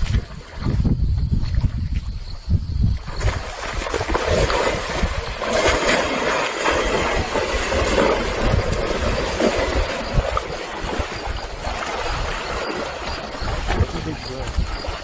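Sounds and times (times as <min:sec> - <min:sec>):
water splashing and churning: 0:00.0 - 0:02.2, 0:03.0 - 0:15.0
wind rumbling on microphone: 0:00.0 - 0:15.0.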